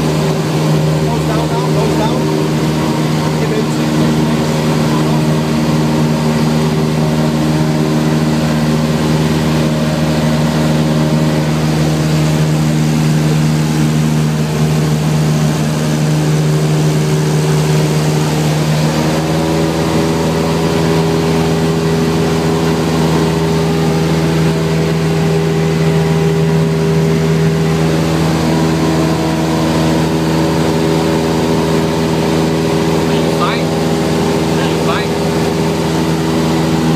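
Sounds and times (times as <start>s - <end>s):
plane engine and propeller droning: 0.0s - 36.9s.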